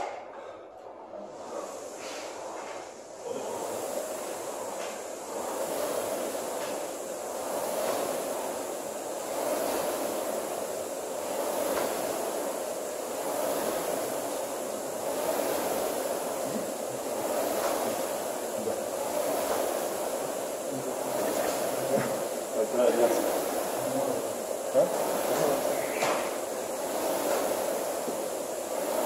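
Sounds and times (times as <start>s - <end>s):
rowing machine flywheel whooshing: 0.0s - 29.0s.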